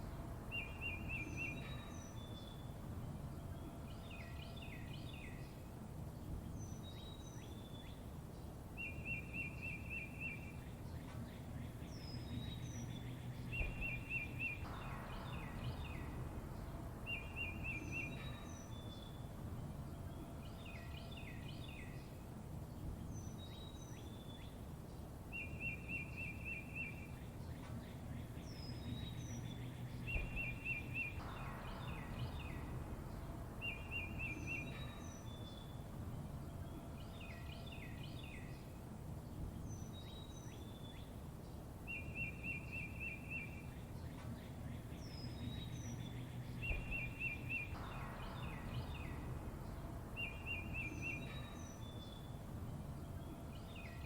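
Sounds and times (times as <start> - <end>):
low background rumble: 0.0 - 54.0
songbirds chirping: 0.0 - 54.0.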